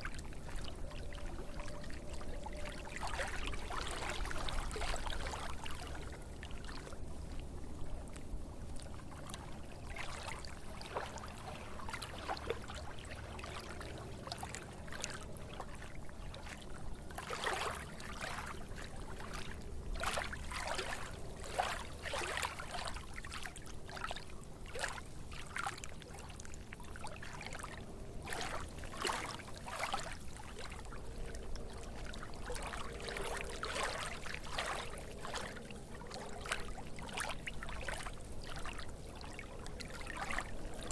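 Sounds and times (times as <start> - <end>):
water splashing and gurgling: 0.0 - 40.9.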